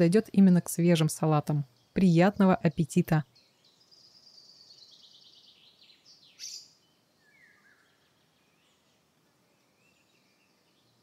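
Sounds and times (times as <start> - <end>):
songbird singing: 0.0 - 11.0
soft bird chirp: 1.0 - 11.0.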